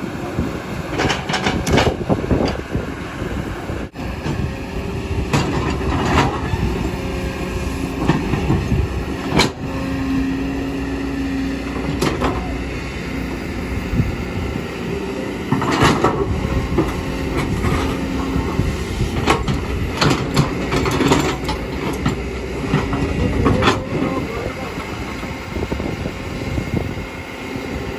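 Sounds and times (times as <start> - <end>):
excavator diesel engine: 0.0 - 27.9
held whine: 0.0 - 27.9.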